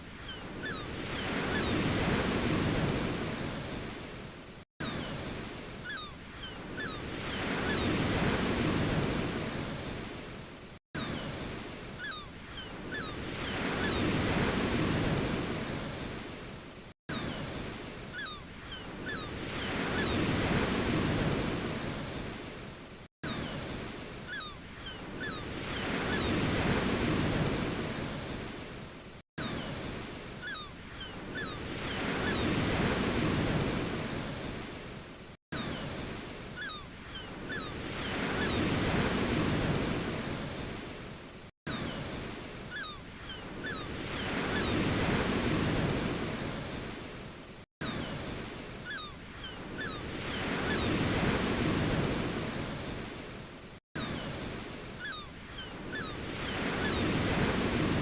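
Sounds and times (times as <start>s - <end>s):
ocean waves washing in: 0.0s - 58.0s.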